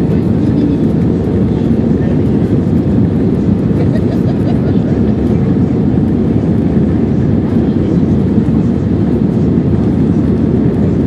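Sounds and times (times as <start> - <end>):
jet engines roaring in cabin: 0.0 - 11.0.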